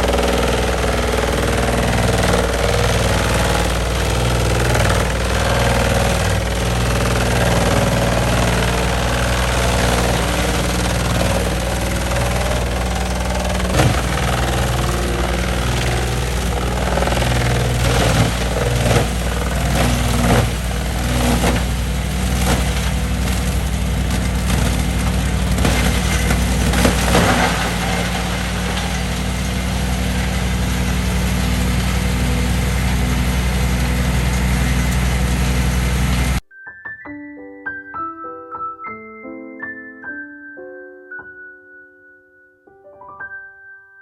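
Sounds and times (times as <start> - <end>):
logs cracking and crunching: 0.0 - 36.4
wood shredder engine running: 0.0 - 36.4.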